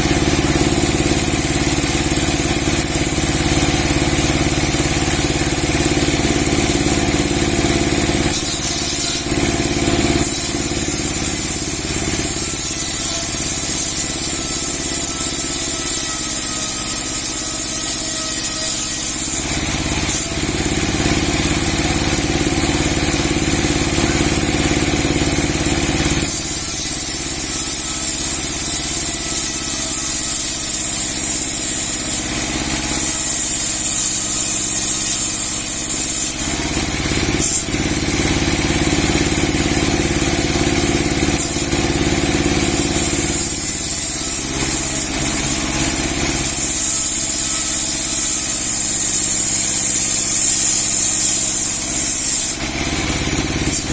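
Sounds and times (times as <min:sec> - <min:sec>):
sawmill blade running: 0:00.0 - 0:53.9.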